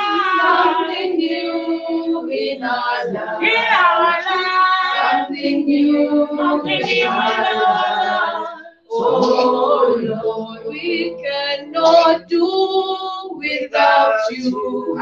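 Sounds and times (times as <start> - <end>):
women singing a cappella: 0.0 - 15.0.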